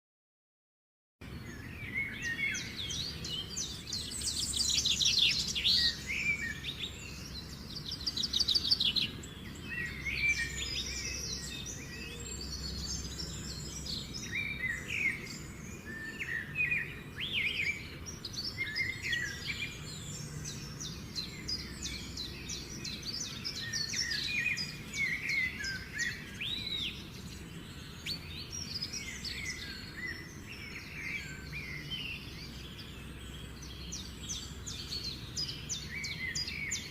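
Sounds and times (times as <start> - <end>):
songbirds chirping and singing: 1.2 - 36.9.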